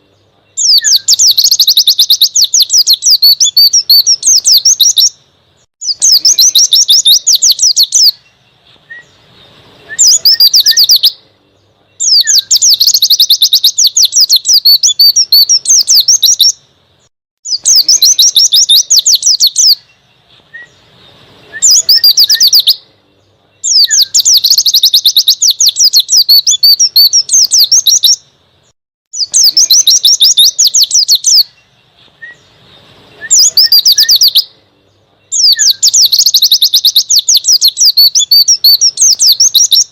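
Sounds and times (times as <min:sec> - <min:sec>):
bird twittering rapidly: 0:00.0 - 0:39.9.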